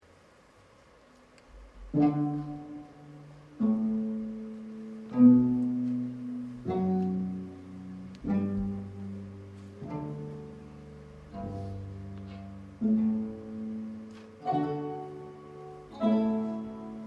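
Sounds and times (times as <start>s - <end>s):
plucked string notes: 1.6s - 17.0s
held bowed string tone: 1.8s - 17.0s.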